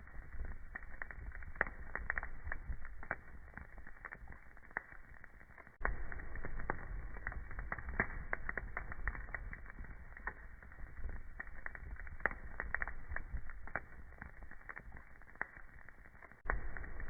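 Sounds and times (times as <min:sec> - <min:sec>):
fire low rumble: 0:00.0 - 0:17.0
wood fire crackling and popping: 0:00.0 - 0:17.0.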